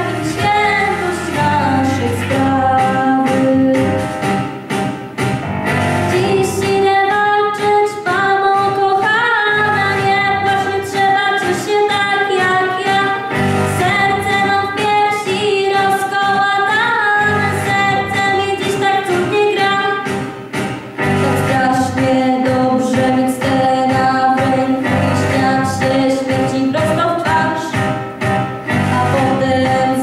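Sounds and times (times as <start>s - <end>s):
girl singing into microphone: 0.0s - 4.3s, 6.1s - 20.4s, 21.0s - 28.0s, 28.6s - 30.0s.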